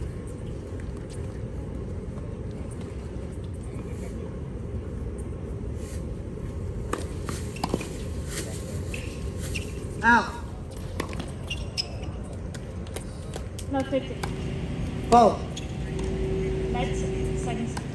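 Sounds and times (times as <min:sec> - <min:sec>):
low outdoor rumble: 0:00.0 - 0:17.9.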